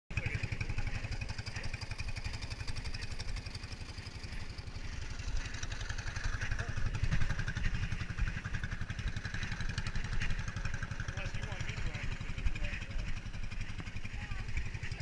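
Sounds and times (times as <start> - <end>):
small engine running: 0.1 - 15.0.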